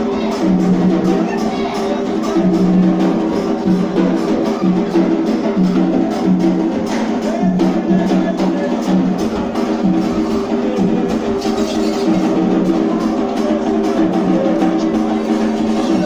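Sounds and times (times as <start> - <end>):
drums beating steady rhythm: 0.0 - 16.0.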